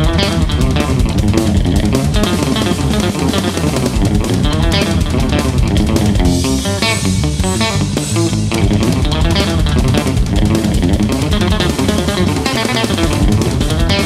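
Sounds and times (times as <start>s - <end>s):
electric guitar playing fast passages: 0.0s - 14.0s.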